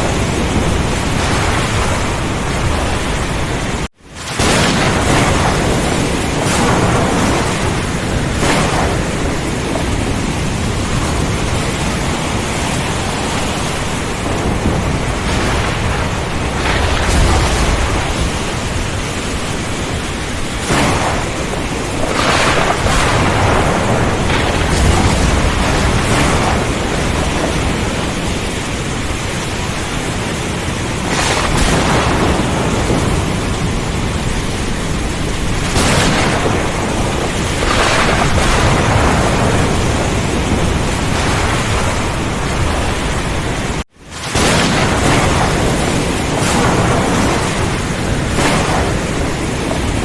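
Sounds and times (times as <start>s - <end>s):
heavy rain pouring: 0.0s - 50.0s
thunder cracks and rumbles: 0.0s - 50.0s.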